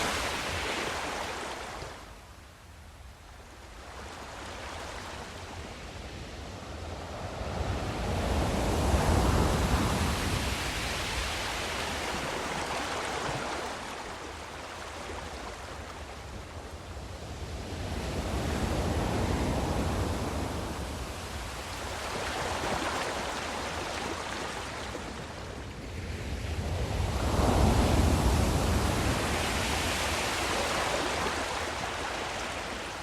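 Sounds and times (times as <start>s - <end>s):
sea waves washing: 0.0s - 2.1s, 6.5s - 33.0s.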